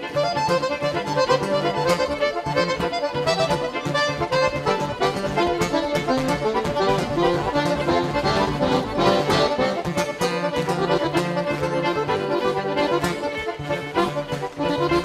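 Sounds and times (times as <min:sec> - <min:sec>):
accordion playing lead: 0:00.0 - 0:15.0
band playing: 0:00.0 - 0:15.0.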